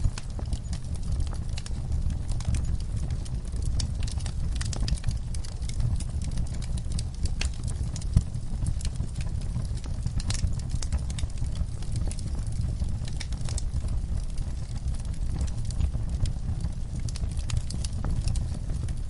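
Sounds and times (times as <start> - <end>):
fire crackling and snapping: 0.0 - 19.0
fire flames rumbling: 0.0 - 19.0.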